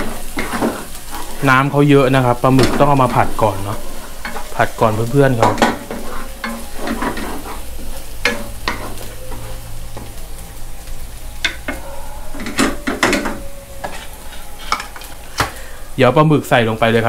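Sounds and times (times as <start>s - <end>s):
wooden spatula scraping a wok: 0.0s - 10.3s, 10.9s - 15.3s
food sizzling in oil: 0.0s - 17.0s.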